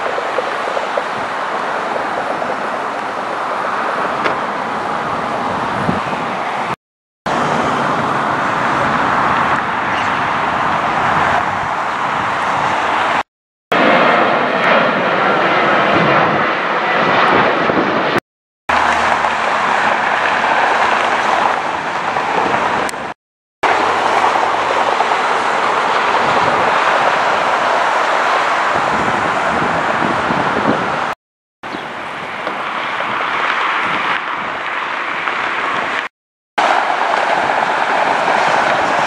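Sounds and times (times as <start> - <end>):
jet engines roaring: 0.0 - 31.2, 31.8 - 39.0.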